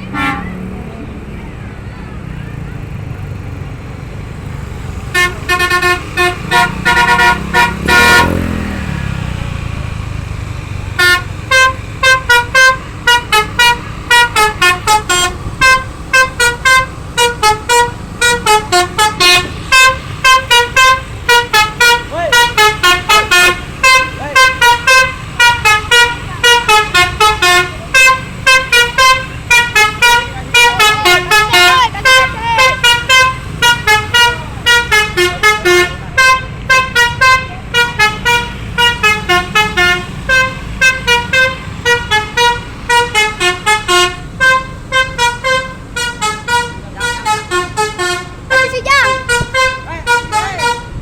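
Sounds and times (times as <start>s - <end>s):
multi-tone bus air horn melody: 0.0s - 0.8s, 4.8s - 9.3s, 10.8s - 51.0s.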